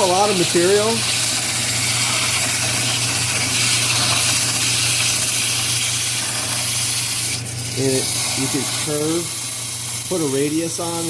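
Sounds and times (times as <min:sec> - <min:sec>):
lathe motor hum: 0:00.0 - 0:11.0
sandpaper hissing on spinning wood: 0:00.0 - 0:11.0.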